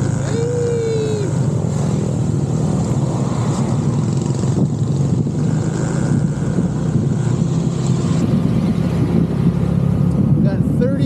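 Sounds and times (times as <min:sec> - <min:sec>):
motorbike engine running: 0:00.0 - 0:11.0
wind rushing over microphone: 0:00.0 - 0:11.0.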